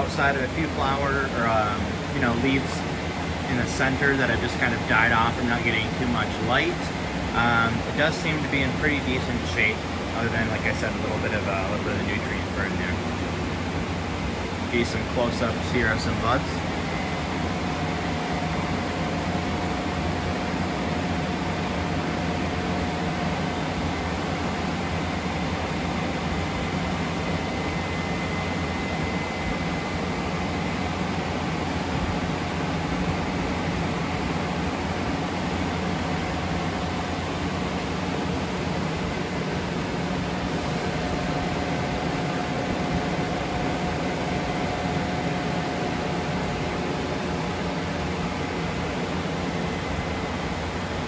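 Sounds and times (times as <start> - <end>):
faint high whine: 0.0 - 51.0
ventilation fans running: 0.0 - 51.0.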